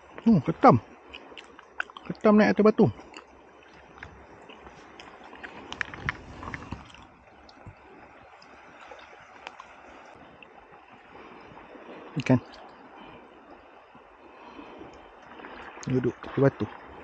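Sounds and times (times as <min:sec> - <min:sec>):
water lapping against rocks: 0:00.0 - 0:17.0.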